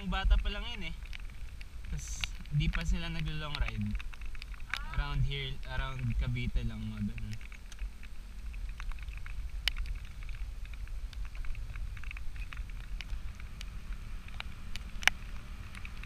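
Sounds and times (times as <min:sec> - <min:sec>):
wind rumble on microphone: 0:00.0 - 0:16.0
sharp clicks: 0:01.0 - 0:16.0.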